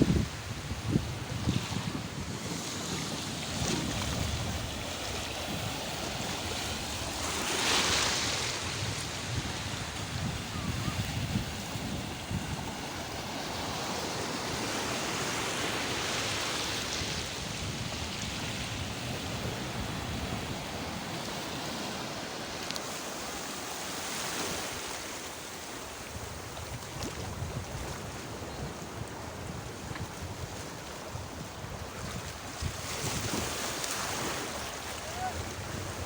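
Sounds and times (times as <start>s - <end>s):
sea waves washing ashore: 0.0s - 36.0s.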